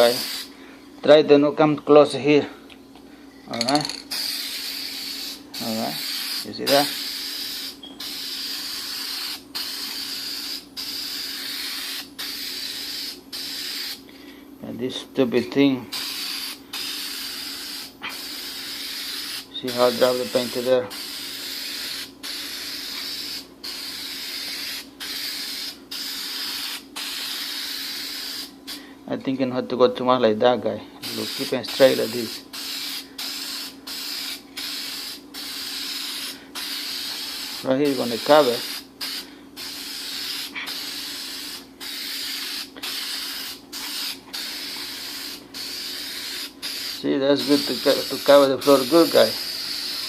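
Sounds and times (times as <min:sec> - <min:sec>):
paint spray hissing: 0:00.0 - 0:00.5, 0:04.1 - 0:14.0, 0:15.9 - 0:28.8, 0:31.0 - 0:50.0.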